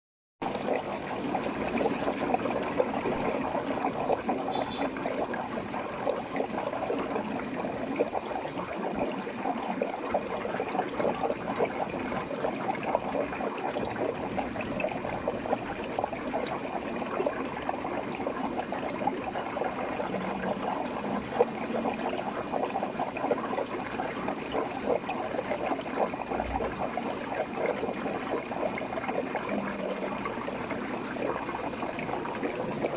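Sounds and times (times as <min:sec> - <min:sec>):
aquarium water trickling and bubbling: 0:00.4 - 0:32.9.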